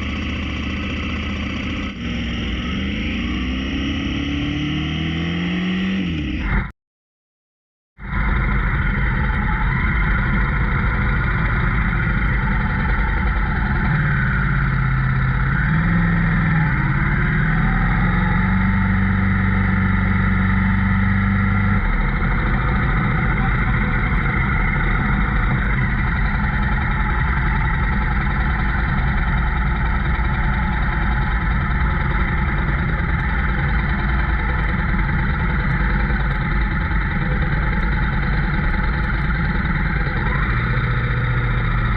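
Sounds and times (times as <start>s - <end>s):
motorcycle engine: 0.0s - 6.7s, 8.0s - 41.9s.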